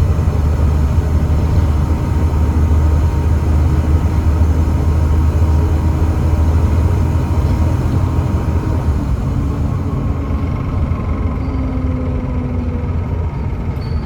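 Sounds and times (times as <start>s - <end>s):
diesel bus engine droning: 0.0s - 14.0s.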